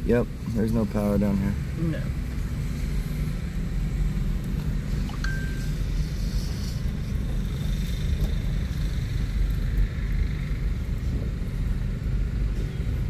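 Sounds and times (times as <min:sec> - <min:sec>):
car driving on dirt road: 0:00.0 - 0:13.0.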